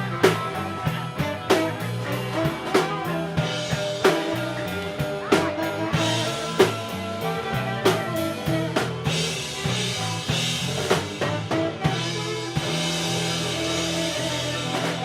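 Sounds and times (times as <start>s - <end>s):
drum kit strikes: 0.0s - 15.0s
live band playing: 0.0s - 15.0s.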